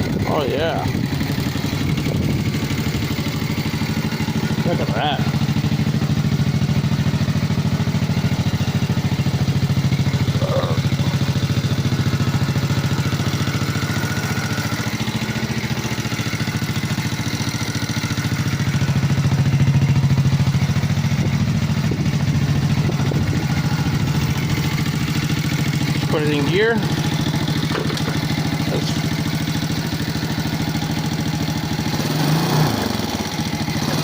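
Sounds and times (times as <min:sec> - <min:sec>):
atv engine idling: 0:00.0 - 0:34.0.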